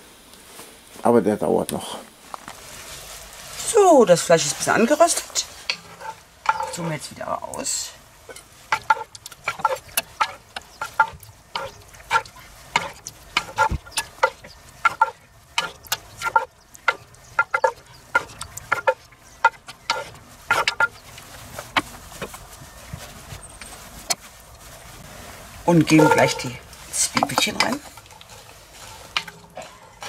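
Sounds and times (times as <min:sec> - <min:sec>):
meat searing with crackles: 0:02.1 - 0:30.0
wooden spatula scraping pot: 0:03.6 - 0:30.0.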